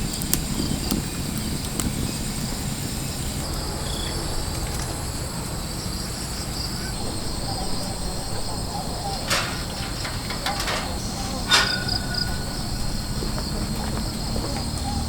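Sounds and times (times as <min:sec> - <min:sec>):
insects trilling: 0:00.0 - 0:15.0
low outdoor rumble: 0:00.0 - 0:15.0.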